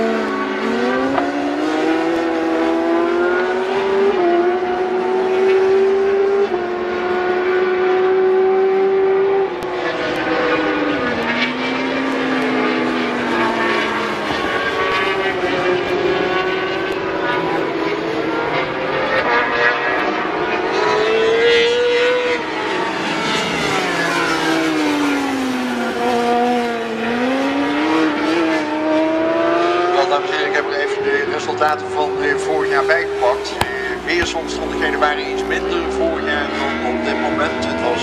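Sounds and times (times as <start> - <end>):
motorcycle engine revving through gears: 0.0 - 38.0.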